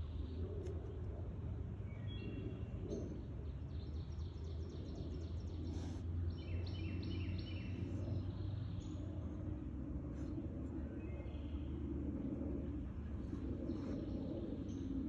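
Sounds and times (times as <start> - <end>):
steady low rumble: 0.0 - 15.0
songbird singing: 1.8 - 9.6, 10.7 - 15.0.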